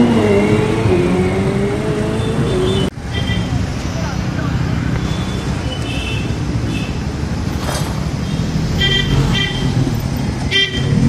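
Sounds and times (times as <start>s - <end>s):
road traffic rumbling: 0.0s - 11.0s.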